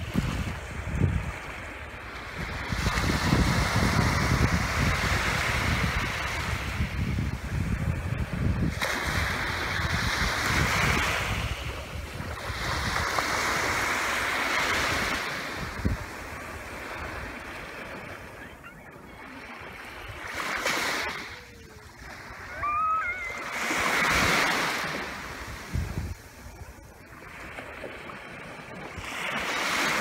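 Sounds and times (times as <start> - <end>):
small waves washing on beach: 0.0 - 30.0.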